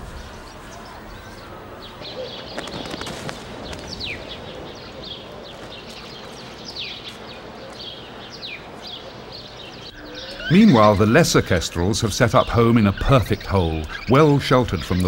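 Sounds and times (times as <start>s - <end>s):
birds calling high: 0.0s - 15.0s
steady background noise: 0.0s - 15.0s.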